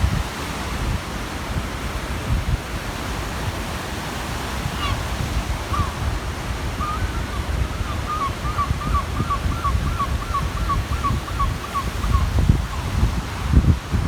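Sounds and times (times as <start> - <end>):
waves washing in: 0.0 - 14.0
wind buffeting microphone: 0.0 - 14.0.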